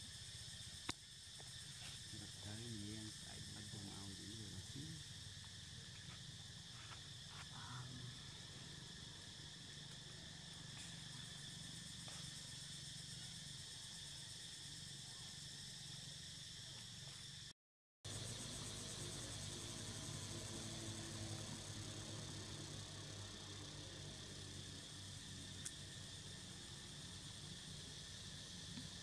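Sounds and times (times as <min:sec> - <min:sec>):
high-pitched insects droning: 0:00.0 - 0:17.5, 0:18.1 - 0:29.0.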